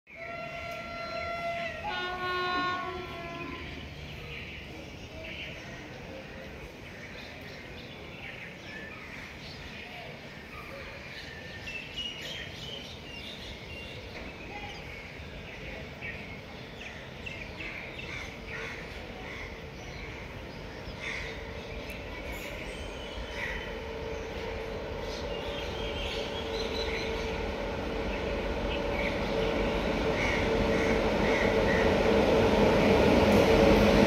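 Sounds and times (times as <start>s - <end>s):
distant train hum: 0.1s - 34.0s.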